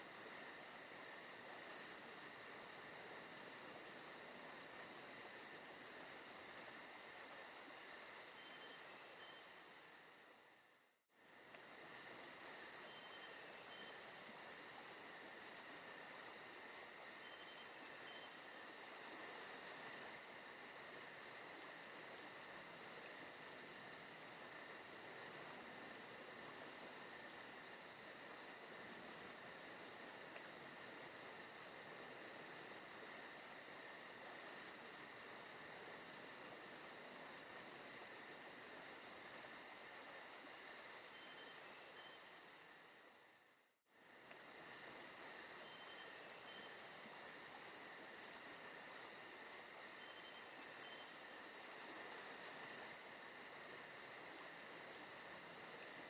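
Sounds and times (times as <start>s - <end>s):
crickets and insects chirping: 0.0s - 56.0s.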